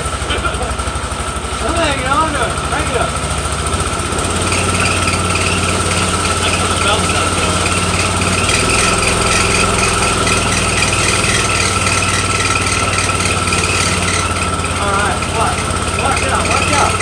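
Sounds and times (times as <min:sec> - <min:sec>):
high whine: 0:00.0 - 0:17.0
pump engine running: 0:00.0 - 0:17.0.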